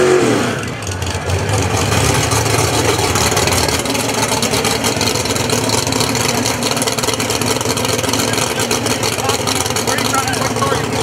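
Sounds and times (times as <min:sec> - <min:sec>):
car engine idling: 0:00.5 - 0:11.0.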